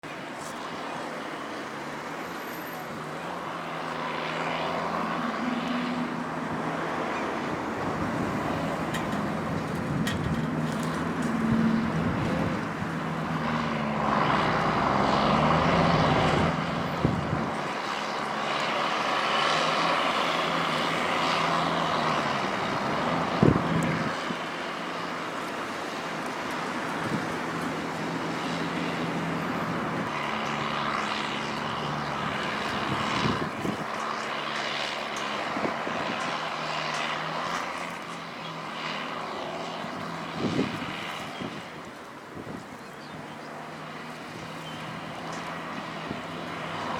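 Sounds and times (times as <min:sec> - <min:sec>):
diesel engine revving: 0:02.9 - 0:41.6.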